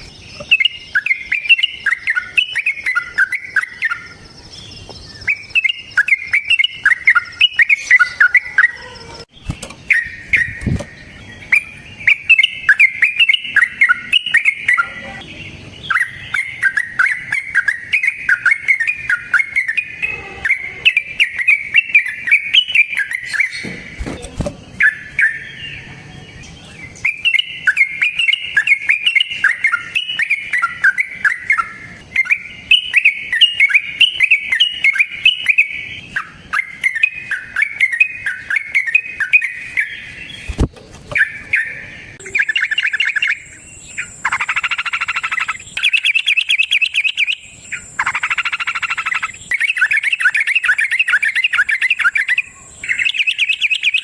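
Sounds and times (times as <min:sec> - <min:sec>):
bird singing chattering notes: 0:00.0 - 0:54.0.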